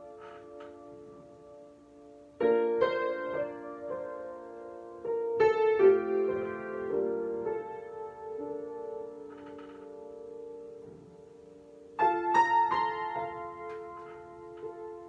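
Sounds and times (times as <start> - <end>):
solo piano chords: 0.0 - 15.0.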